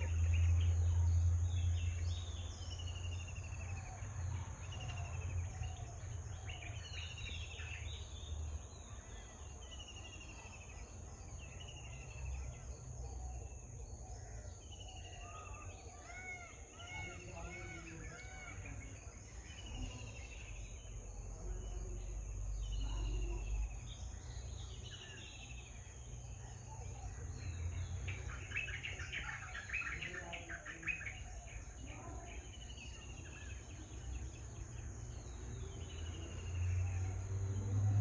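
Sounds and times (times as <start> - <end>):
bird chirping: 0.0 - 38.0.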